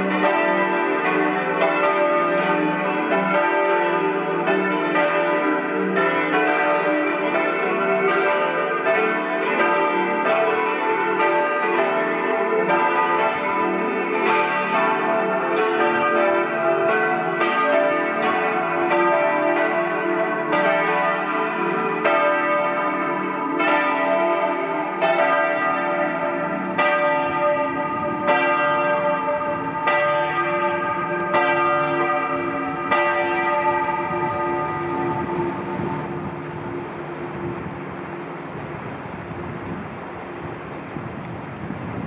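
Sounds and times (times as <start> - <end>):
church bells ringing: 0.0 - 41.7.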